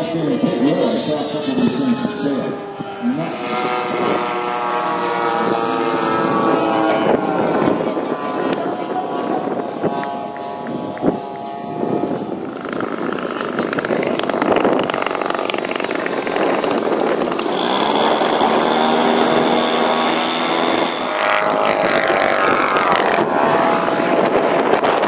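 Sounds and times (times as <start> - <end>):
model airplane engines: 0.0 - 25.0.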